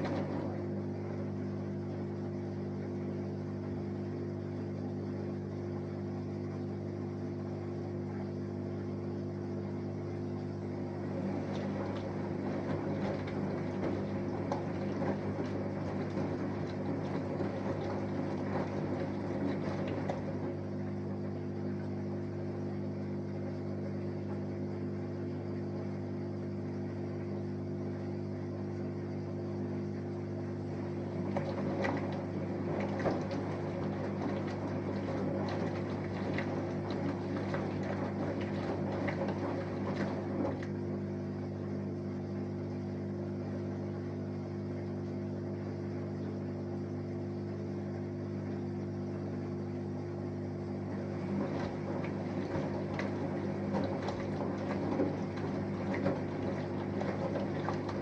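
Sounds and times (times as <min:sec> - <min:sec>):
washing machine motor hum: 0:00.0 - 0:58.0
water sloshing and laundry tumbling: 0:00.0 - 0:58.0.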